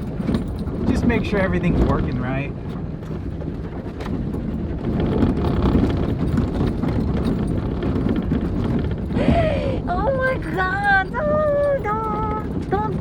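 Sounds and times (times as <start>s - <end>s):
engine running low: 0.0s - 13.0s
knocks and rattles of car body: 0.0s - 13.0s.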